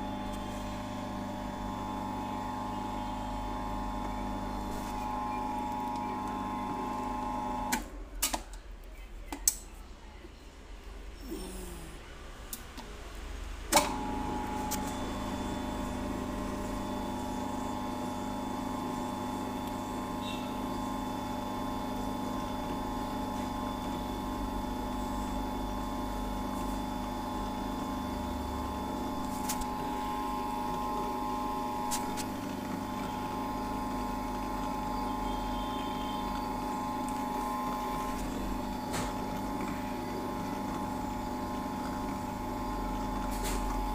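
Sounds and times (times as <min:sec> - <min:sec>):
mixer motor humming: 0:00.0 - 0:07.9, 0:11.2 - 0:43.9.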